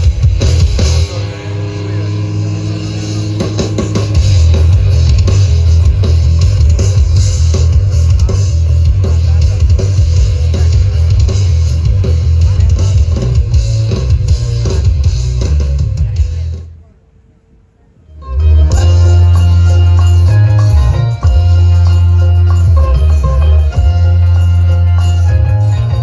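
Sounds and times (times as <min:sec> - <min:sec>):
loud rock music with heavy bass: 0:00.0 - 0:16.7, 0:18.2 - 0:26.0.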